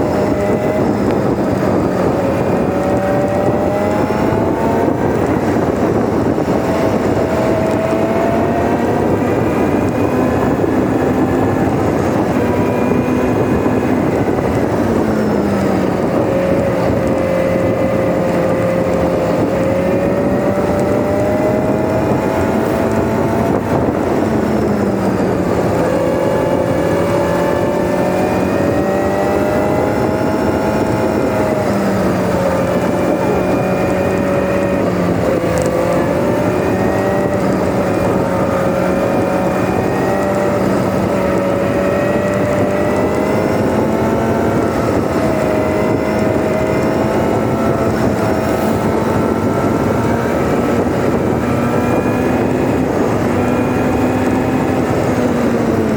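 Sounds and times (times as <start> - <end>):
motorcycle engine shifting up: 0.0 - 55.9.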